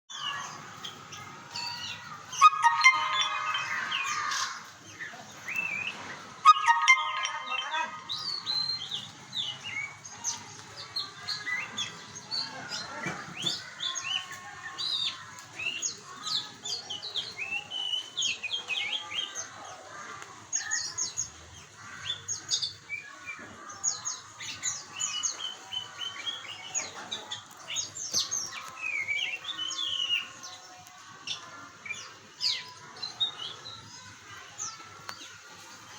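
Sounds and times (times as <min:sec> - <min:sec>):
birds singing whistled notes: 0:00.1 - 0:10.4, 0:11.0 - 0:19.6, 0:20.5 - 0:30.6.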